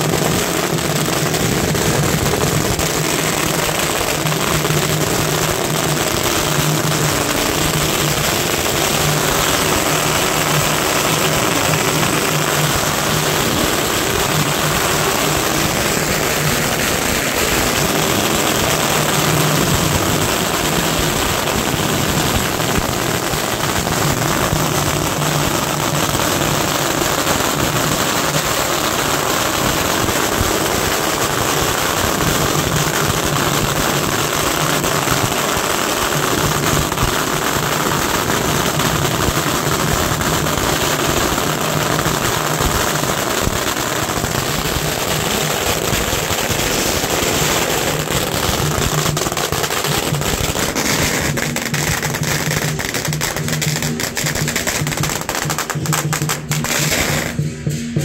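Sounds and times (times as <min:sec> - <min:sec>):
firecrackers popping: 0:00.0 - 0:58.0.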